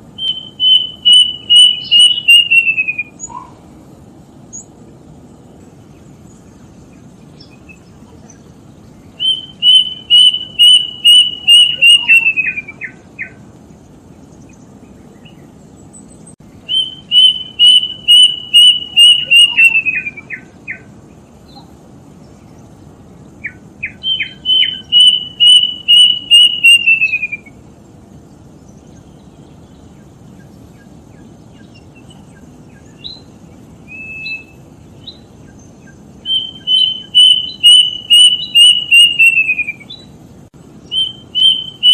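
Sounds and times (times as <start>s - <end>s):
bird singing: 0.0s - 3.7s, 4.4s - 41.9s.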